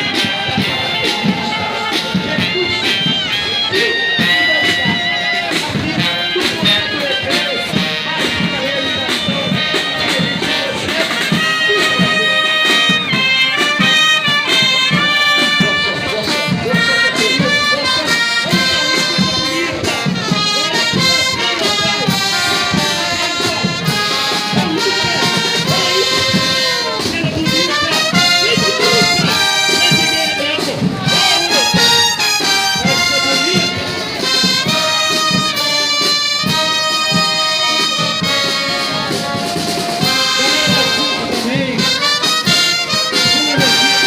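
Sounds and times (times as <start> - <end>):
military brass band playing: 0.0 - 44.0.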